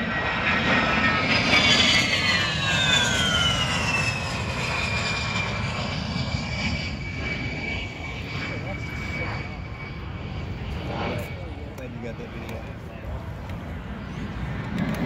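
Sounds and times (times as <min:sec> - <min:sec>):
jet engines whining on fly-by: 0:00.0 - 0:15.0.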